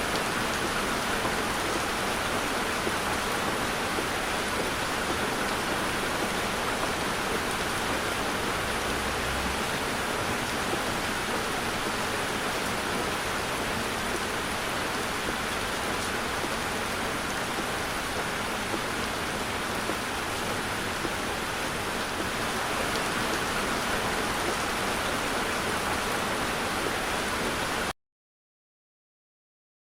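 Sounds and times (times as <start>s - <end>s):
heavy rain on a car: 0.0s - 27.9s.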